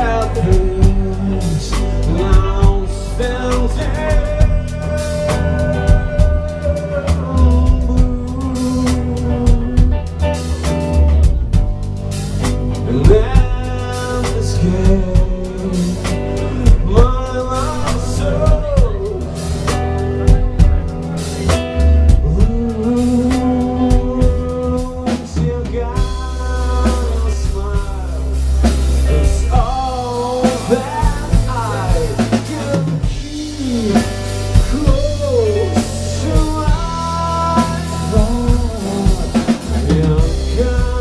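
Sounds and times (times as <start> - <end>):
person singing: 0.0 - 11.2, 12.1 - 41.0
distorted electric guitars: 0.0 - 41.0
drum kit beat: 0.0 - 41.0.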